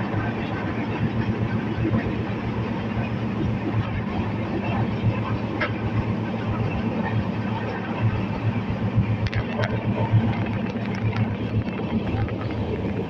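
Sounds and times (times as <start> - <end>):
train rumbling on track: 0.0 - 13.0
wheels clicking on rails: 0.0 - 13.0.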